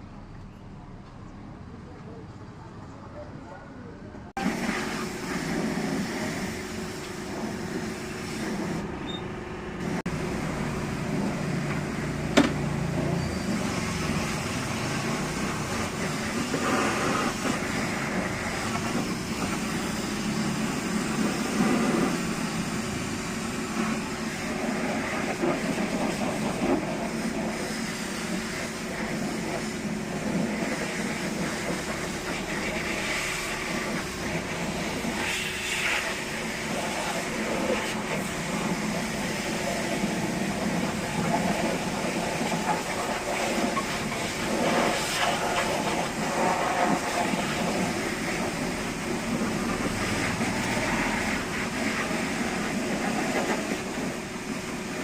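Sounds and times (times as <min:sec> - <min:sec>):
machine running hum: 0:04.4 - 0:55.0.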